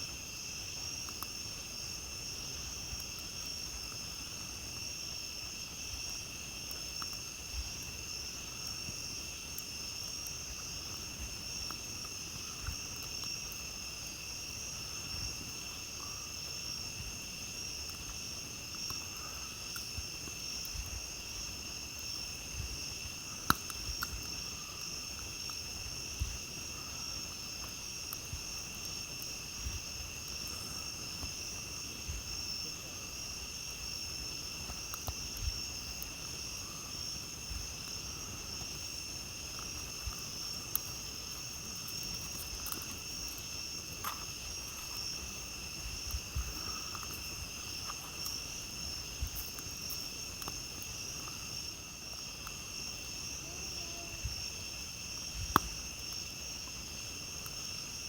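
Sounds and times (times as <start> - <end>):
crickets chirping: 0.0 - 58.0
campfire popping and crackling: 0.1 - 58.0.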